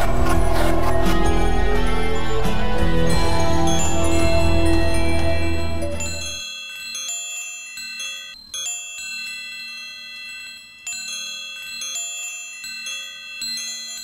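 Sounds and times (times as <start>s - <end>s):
bell-like chime notes: 1.7s - 14.0s.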